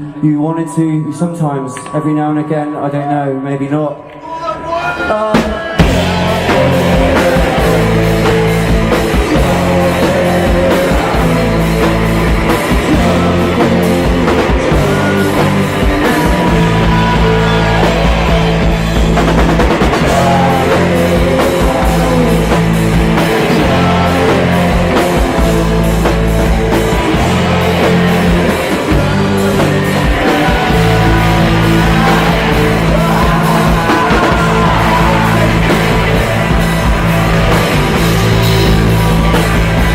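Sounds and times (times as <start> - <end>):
rock band playing loudly: 3.7 - 39.9
steady drumbeat: 5.1 - 39.9
held bass notes: 5.8 - 39.9.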